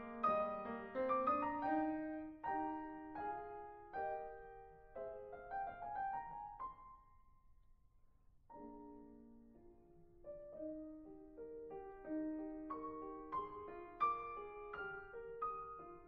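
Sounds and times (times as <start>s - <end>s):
gentle piano music: 0.0s - 7.5s, 8.5s - 16.0s.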